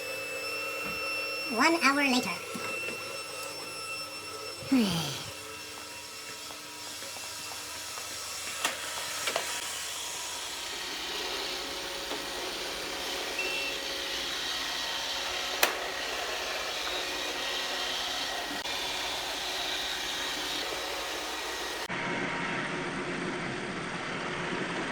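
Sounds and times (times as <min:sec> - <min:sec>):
robot vacuum cleaner whirring: 0:00.0 - 0:22.1.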